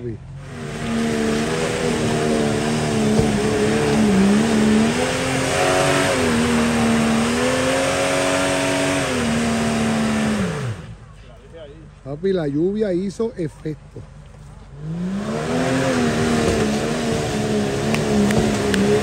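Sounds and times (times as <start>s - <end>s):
off-road vehicle engine revving: 0.0s - 11.2s, 14.6s - 19.0s.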